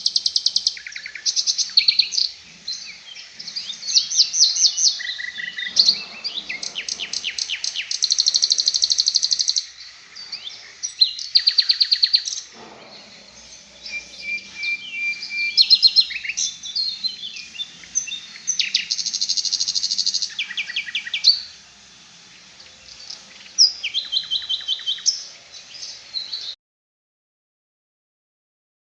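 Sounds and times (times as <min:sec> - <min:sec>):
songbird singing rapid trills: 0:00.0 - 0:26.6.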